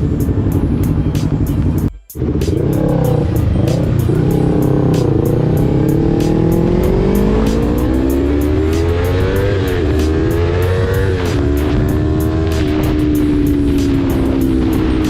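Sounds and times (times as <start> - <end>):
background music with steady beat: 0.0 - 15.0
motorcycle engine accelerating: 0.0 - 15.0.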